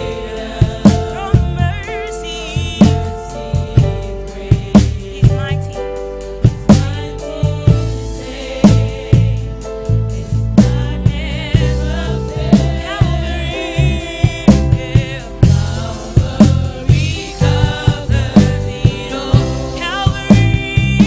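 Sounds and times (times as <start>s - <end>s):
drum kit beat: 0.0s - 21.0s
gospel singing with band: 0.0s - 21.0s.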